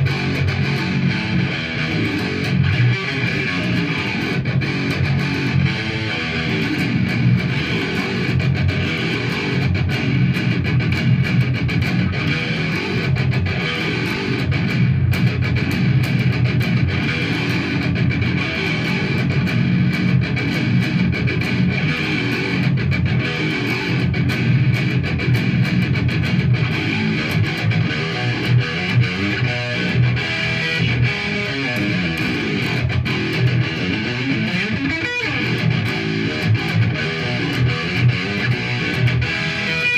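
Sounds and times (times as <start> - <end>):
electric guitar riffs: 0.0 - 39.9.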